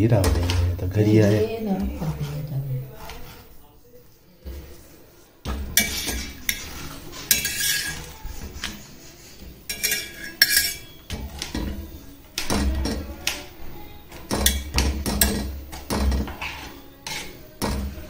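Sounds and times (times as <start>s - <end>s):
spatula scraping on iron griddle: 0.3s - 3.6s, 4.5s - 18.0s.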